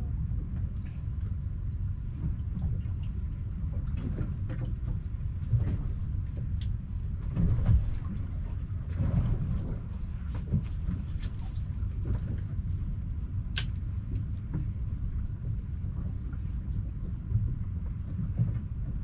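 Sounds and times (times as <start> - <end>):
rain on a boat: 0.0 - 19.0
wind: 0.0 - 19.0.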